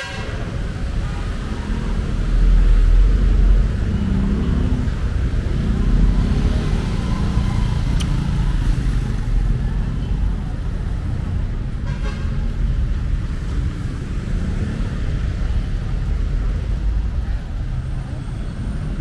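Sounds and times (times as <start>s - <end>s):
traffic rumbling past: 0.0s - 19.0s.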